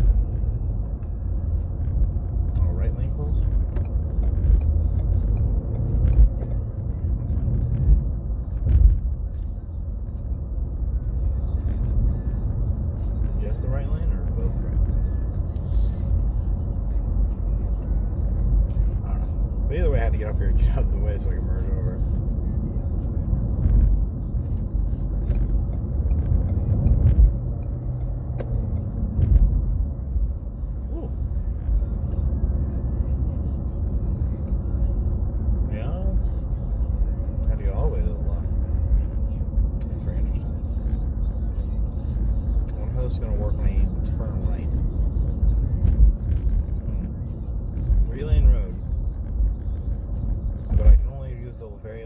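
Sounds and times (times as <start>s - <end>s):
car engine and road noise: 0.0s - 52.0s
even engine hum: 0.0s - 52.0s.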